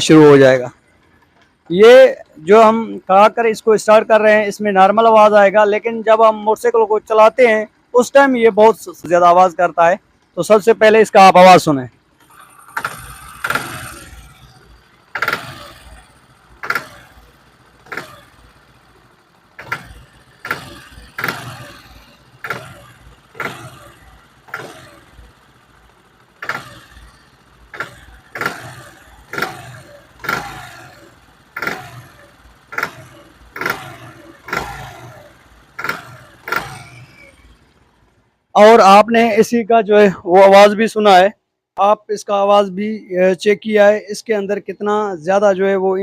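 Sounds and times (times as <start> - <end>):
engine knocking: 0.0 - 11.0, 11.8 - 39.4
motorcycle engine revving: 0.0 - 38.9.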